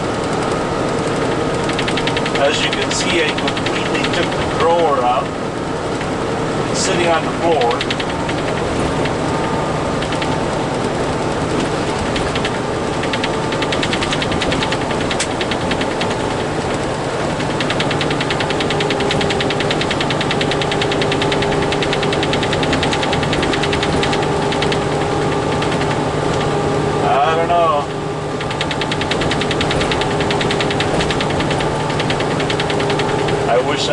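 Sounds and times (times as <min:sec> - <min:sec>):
fast rattling in truck cab: 0:00.0 - 0:33.9
truck engine and road drone: 0:00.0 - 0:33.9.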